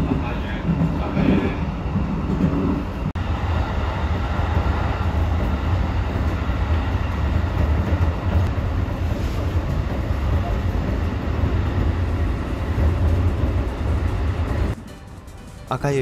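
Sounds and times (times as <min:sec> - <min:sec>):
train rumbling inside carriage: 0:00.0 - 0:16.0.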